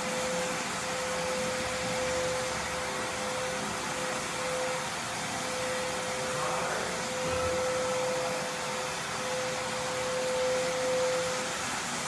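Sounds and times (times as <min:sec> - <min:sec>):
machine whirring and humming: 0:00.0 - 0:12.0.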